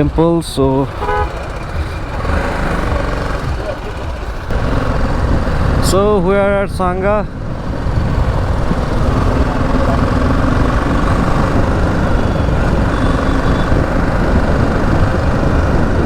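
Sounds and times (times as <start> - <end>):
low rumble: 0.0 - 16.0
motorcycle engine running: 0.0 - 16.0.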